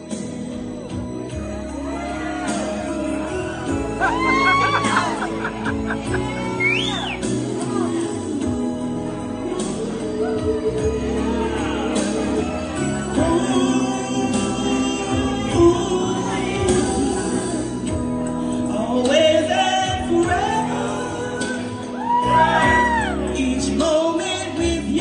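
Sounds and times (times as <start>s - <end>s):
backing music: 0.0s - 25.0s
person singing: 1.6s - 25.0s.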